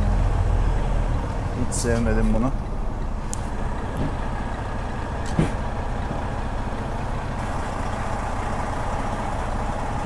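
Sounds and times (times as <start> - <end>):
truck diesel engine at low revs: 0.0 - 10.0.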